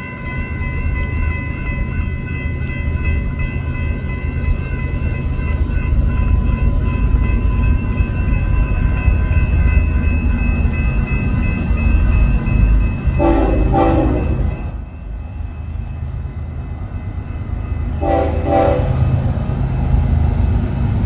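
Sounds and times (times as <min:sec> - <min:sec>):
high ringing tones: 0:00.0 - 0:21.0
train rumbling: 0:00.0 - 0:21.0.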